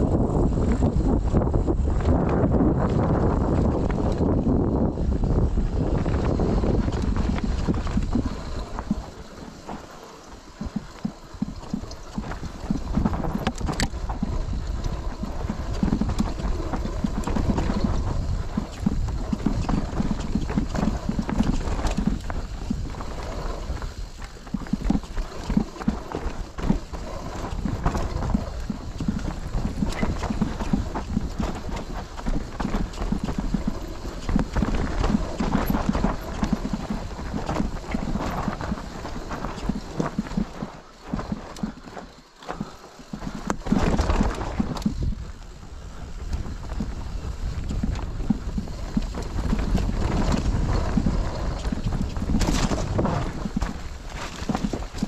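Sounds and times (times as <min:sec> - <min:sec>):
mountain bike rattling on rocks: 0:00.0 - 0:55.0.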